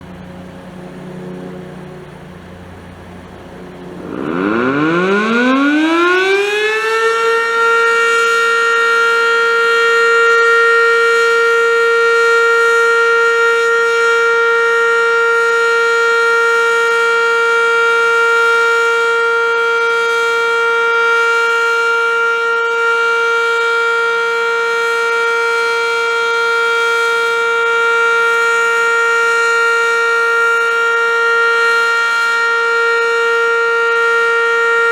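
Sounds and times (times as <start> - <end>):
warning siren winding up: 3.9 - 34.9.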